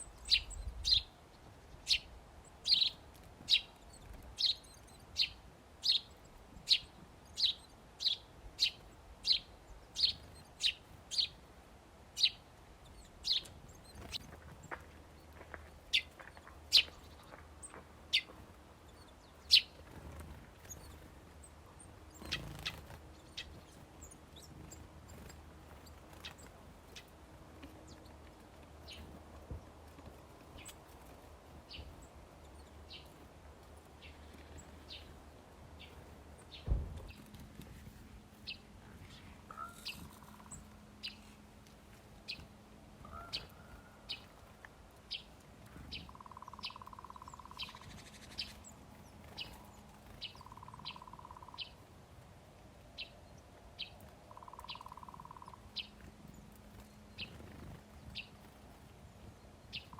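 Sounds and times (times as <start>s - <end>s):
small songbird chirping: 0.0s - 11.5s, 12.1s - 41.4s, 42.2s - 52.0s, 52.7s - 59.9s.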